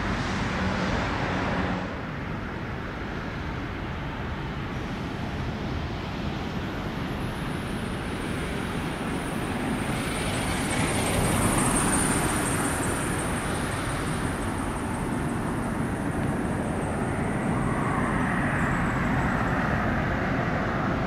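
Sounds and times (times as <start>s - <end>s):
high fan whine: 0.0s - 21.0s
jet airliner engine noise: 0.0s - 21.0s
wind rumble on microphone: 0.0s - 21.0s.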